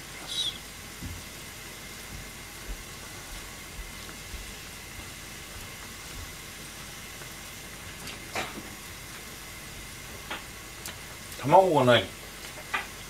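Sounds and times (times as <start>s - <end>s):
soup simmering hiss: 0.0s - 13.0s.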